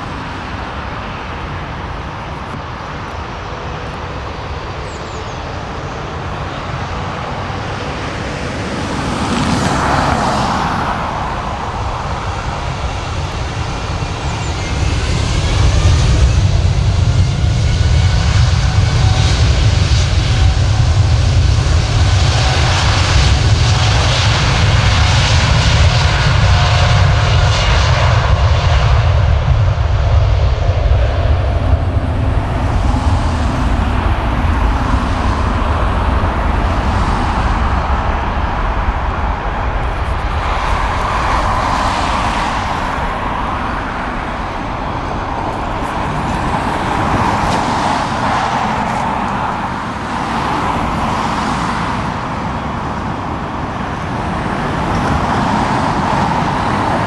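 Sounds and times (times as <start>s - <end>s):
jet engine whine and rumble: 0.0s - 57.0s.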